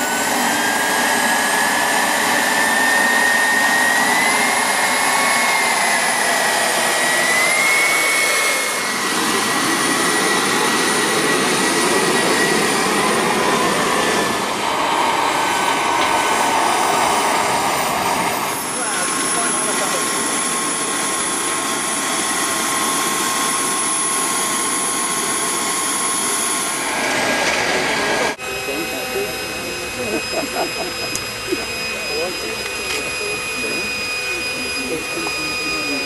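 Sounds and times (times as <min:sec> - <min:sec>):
gas turbine whine: 0:00.0 - 0:36.0
rushing exhaust: 0:00.0 - 0:36.0.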